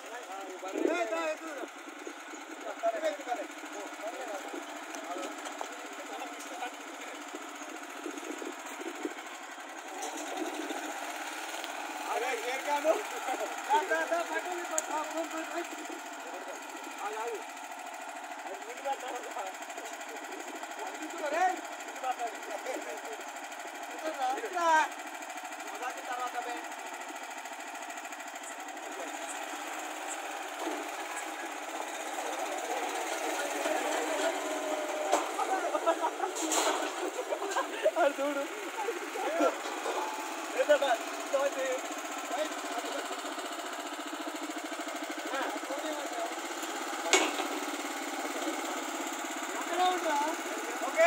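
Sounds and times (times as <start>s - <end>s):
tractor diesel engine chugging: 0.0s - 51.0s.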